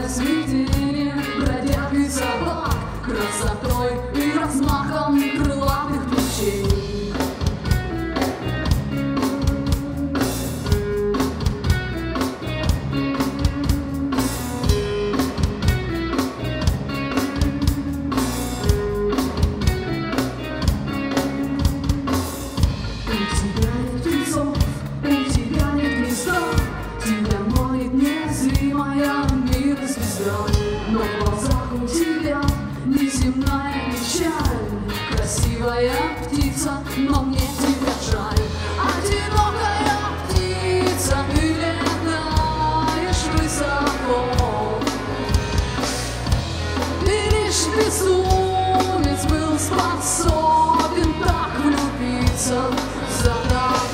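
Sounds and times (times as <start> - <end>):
woman singing: 0.0 - 45.9, 46.7 - 53.9
bass guitar: 0.0 - 53.9
drum kit: 0.0 - 53.9
electric guitar: 0.0 - 53.9.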